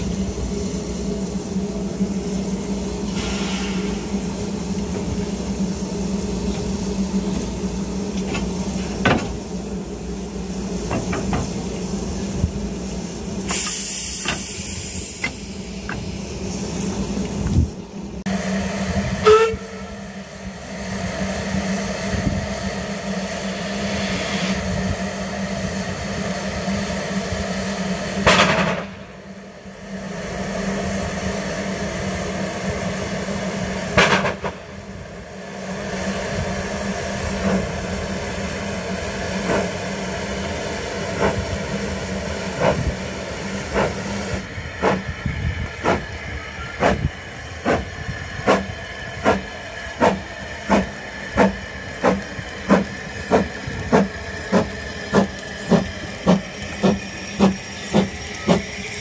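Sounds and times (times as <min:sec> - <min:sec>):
steam hissing: 0:00.0 - 0:59.0
steam train humming: 0:00.0 - 0:59.0.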